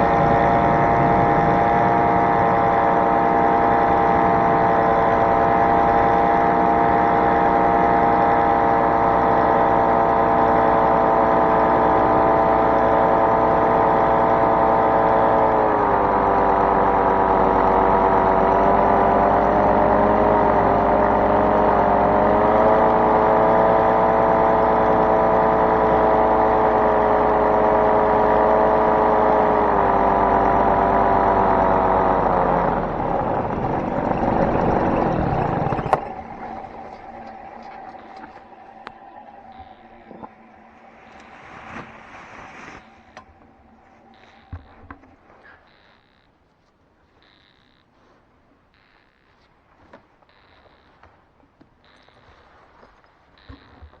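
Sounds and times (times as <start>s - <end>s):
small aircraft engine running: 0.0s - 51.1s, 53.4s - 54.0s.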